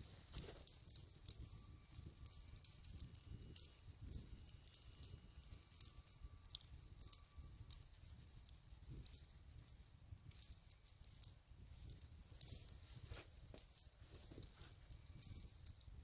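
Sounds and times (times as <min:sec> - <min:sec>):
faint ticks and crackles: 0:00.0 - 0:16.0
faint wind rumble on microphone: 0:00.0 - 0:16.0.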